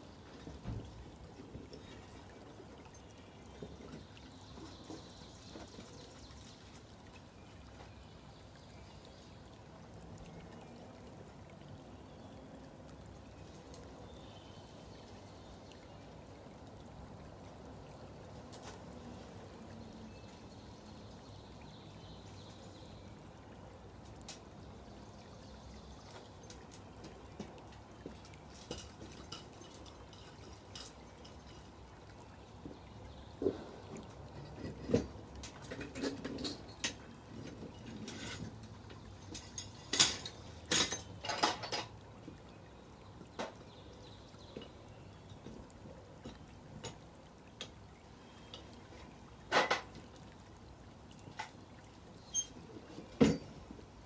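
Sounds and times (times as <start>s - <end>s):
faint steady hiss: 0.0s - 54.0s
molten metal trickling pour: 0.1s - 20.6s, 25.5s - 45.4s, 46.1s - 54.0s.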